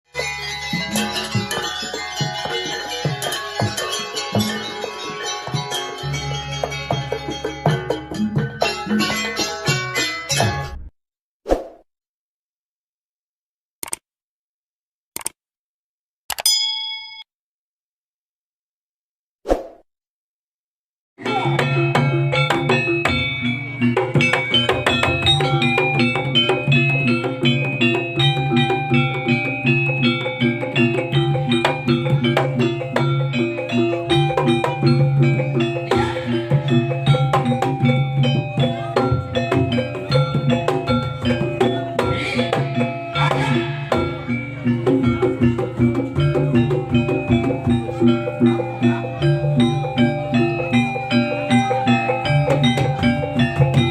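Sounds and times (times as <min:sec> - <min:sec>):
gamelan music: 0:00.1 - 0:10.8, 0:21.2 - 0:53.9.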